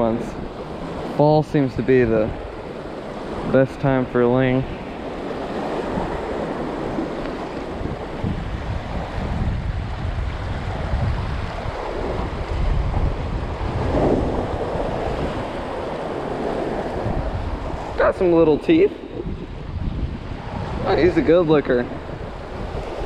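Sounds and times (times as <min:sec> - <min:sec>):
surf washing over rocks: 0:00.0 - 0:23.0
wind buffeting microphone: 0:00.0 - 0:23.0.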